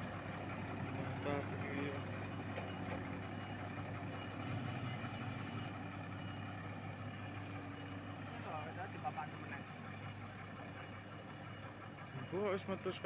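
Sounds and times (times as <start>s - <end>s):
diesel engines humming: 0.0s - 13.0s.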